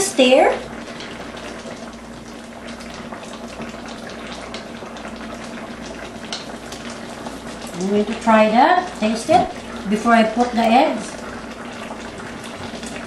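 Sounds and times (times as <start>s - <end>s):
sauce bubbling and popping: 0.5s - 13.0s.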